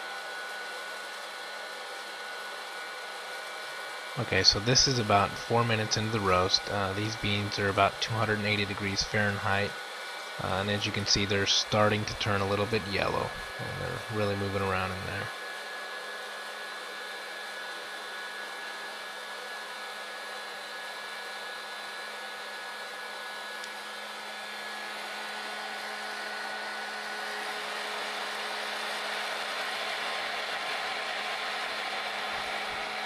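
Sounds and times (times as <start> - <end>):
hot-air popper fan humming: 0.0 - 33.0.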